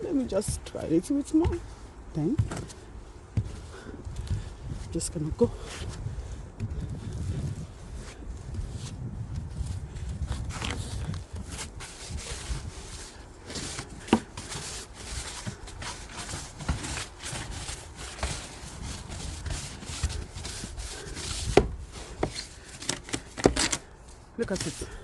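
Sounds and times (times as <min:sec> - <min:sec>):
snow crunching and scraping: 0:00.0 - 0:22.7.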